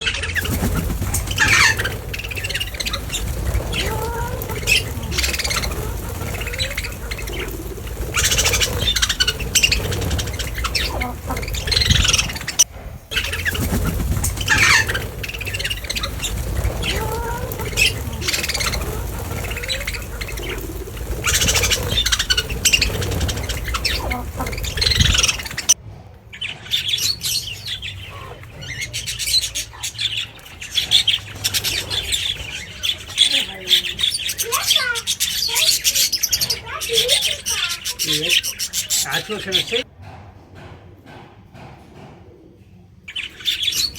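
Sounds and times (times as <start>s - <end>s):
waterbirds calling and squawking: 0.0s - 39.9s, 43.1s - 43.9s.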